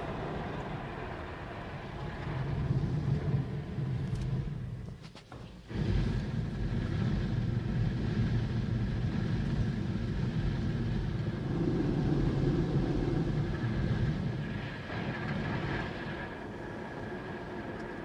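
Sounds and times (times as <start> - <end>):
car wash machinery rumbling: 0.0 - 18.0.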